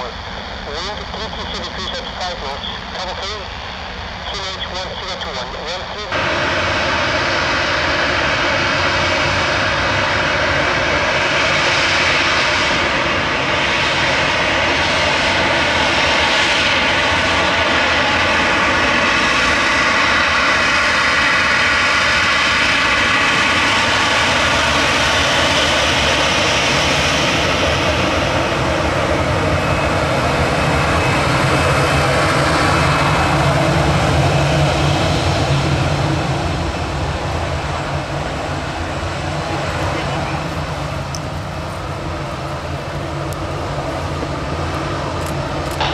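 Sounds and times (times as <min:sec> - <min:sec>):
deep jet exhaust rumble: 0:00.0 - 0:45.9
jet engine whine: 0:00.0 - 0:45.9.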